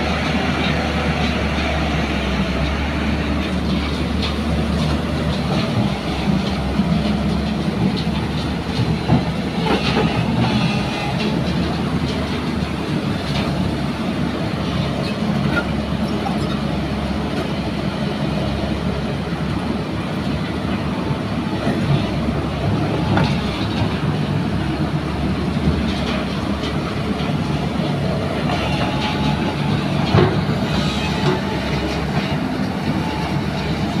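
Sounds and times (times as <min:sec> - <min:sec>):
excavator diesel engine running: 0:00.0 - 0:34.0
steel tracks clattering: 0:00.0 - 0:34.0.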